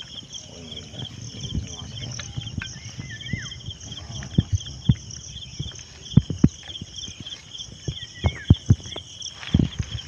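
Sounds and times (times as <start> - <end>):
bird chirp: 0.0 - 10.0
insects chirping: 0.0 - 10.0.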